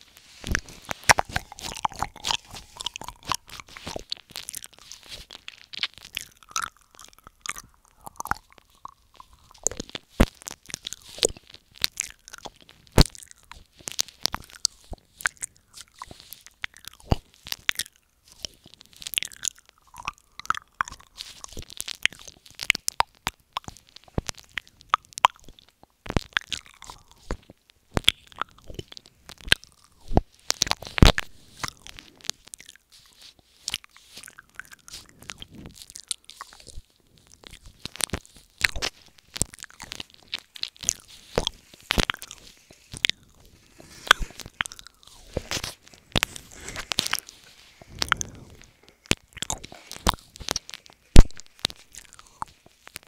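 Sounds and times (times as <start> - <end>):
wet mouth clicks and smacks: 0.0 - 53.0.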